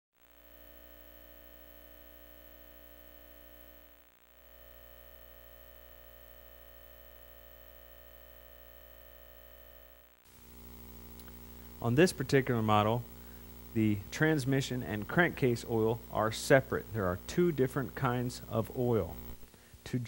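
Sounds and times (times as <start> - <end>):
faint low hum: 0.2 - 20.0.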